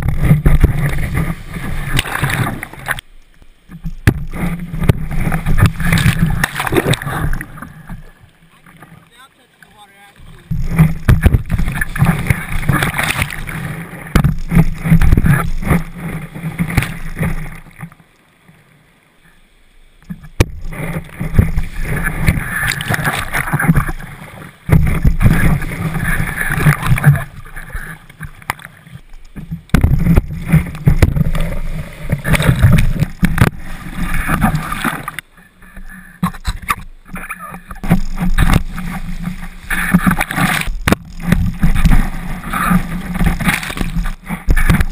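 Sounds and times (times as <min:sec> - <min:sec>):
muffled buffeting on camera housing: 0:00.0 - 0:08.9, 0:10.3 - 0:17.9, 0:20.0 - 0:44.9
water splashing and rushing: 0:00.0 - 0:44.9.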